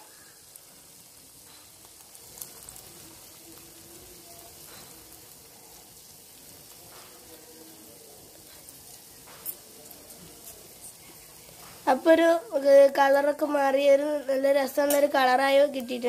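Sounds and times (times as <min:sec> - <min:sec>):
water boiling in pot: 0:00.0 - 0:16.0.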